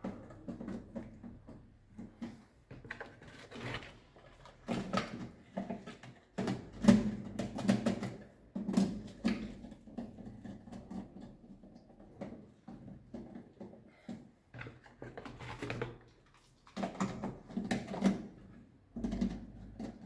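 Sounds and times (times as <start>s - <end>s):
plastic clicks and knocks: 0.0s - 20.0s.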